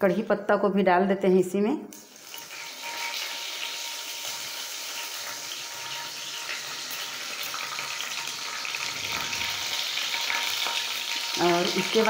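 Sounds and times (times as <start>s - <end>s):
seeds and leaves sizzling in oil: 2.0s - 12.0s.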